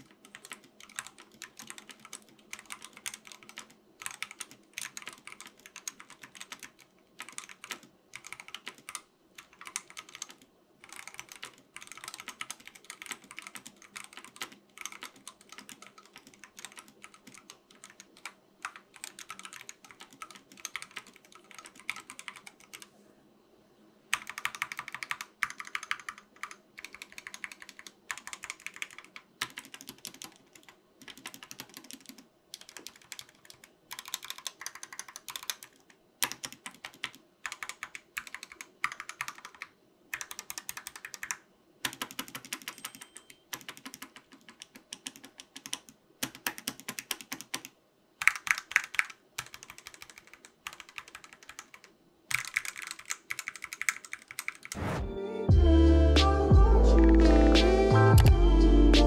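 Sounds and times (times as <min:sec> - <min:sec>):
mechanical keyboard typing: 0:00.0 - 0:22.9, 0:24.1 - 0:55.0.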